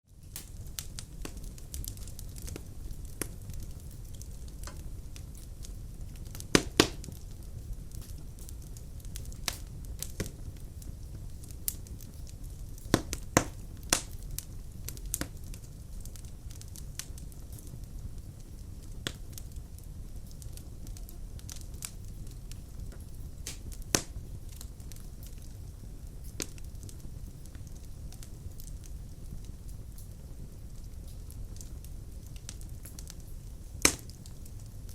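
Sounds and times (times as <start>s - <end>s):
fire crackling and popping: 0.1s - 34.9s
fire flames rumbling: 0.1s - 34.9s.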